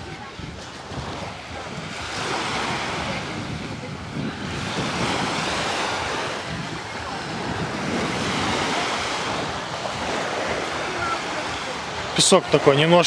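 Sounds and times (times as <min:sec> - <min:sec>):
small waves breaking on shore: 0:00.0 - 0:13.0
wind buffeting microphone: 0:00.0 - 0:13.0.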